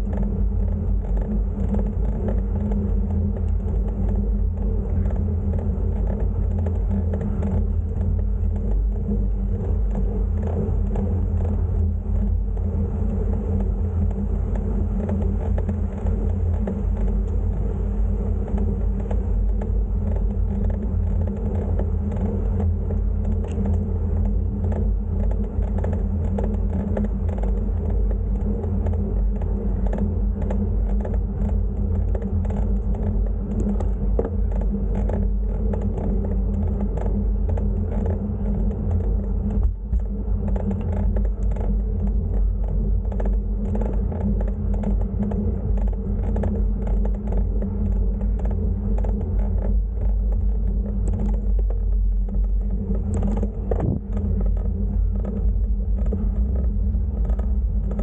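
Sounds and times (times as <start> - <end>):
low rumble with faint whir: 0.0 - 58.0.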